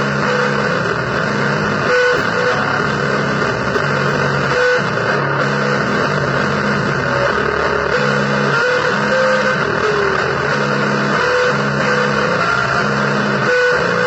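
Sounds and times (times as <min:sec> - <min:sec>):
harsh distorted noise music: 0:00.0 - 0:14.0.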